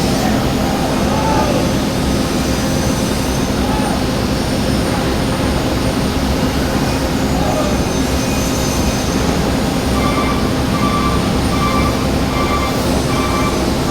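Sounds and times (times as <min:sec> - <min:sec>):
loud machine hum: 0:00.0 - 0:13.9.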